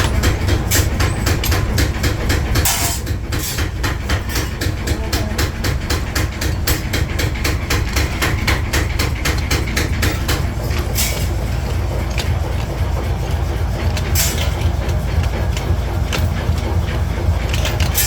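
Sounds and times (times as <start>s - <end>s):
low machine rumble: 0.0s - 18.0s.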